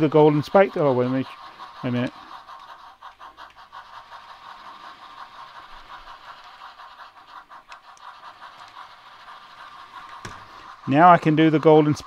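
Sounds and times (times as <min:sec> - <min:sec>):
model trains humming: 0:00.0 - 0:12.0
quick even ticking: 0:00.0 - 0:12.0.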